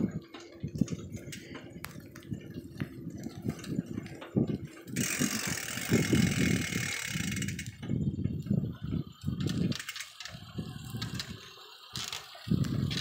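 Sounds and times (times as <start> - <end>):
bicycle clicks and rattles: 0.0 - 13.0
bicycle tyres rumbling on road: 0.0 - 13.0.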